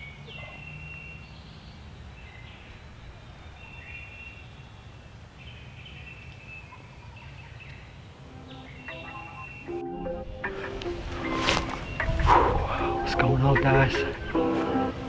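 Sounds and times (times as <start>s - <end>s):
small birds singing: 0.0s - 15.0s.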